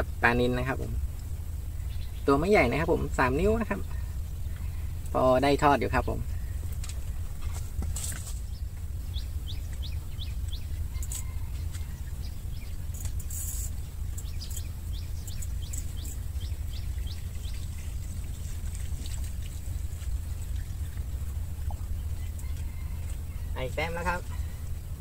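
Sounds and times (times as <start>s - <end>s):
bird chirping rapidly: 0.0s - 25.0s
steady low rumble: 0.0s - 25.0s.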